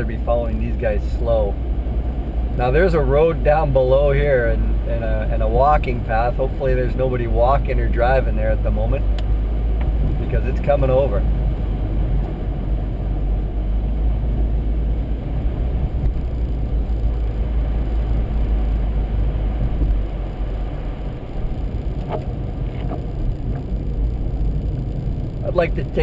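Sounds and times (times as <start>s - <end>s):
car driving heard from inside: 0.0s - 26.0s.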